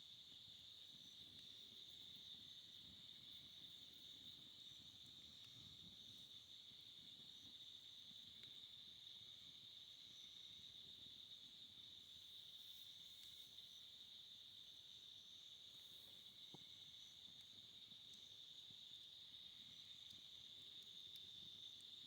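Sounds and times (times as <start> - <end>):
insect chorus trilling: 0.1 - 22.0.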